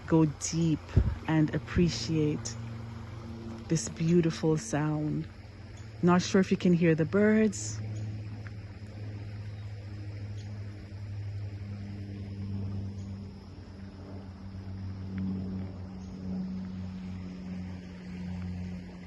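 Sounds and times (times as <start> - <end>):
low engine-like drone: 0.0 - 19.0.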